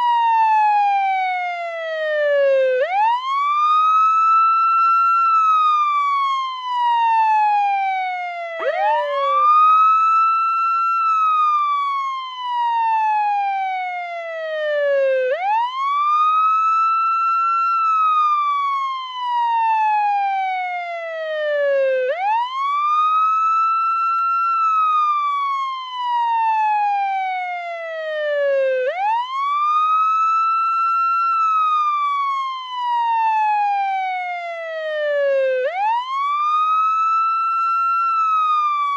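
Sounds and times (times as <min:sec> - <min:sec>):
ambulance wail siren: 0:00.0 - 0:38.9.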